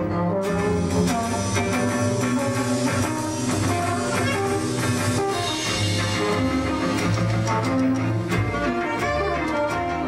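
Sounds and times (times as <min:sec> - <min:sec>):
held bass line: 0:00.0 - 0:10.0
jazz group playing: 0:00.0 - 0:10.0
horns playing melody: 0:00.3 - 0:10.0
drum strikes: 0:00.7 - 0:10.0.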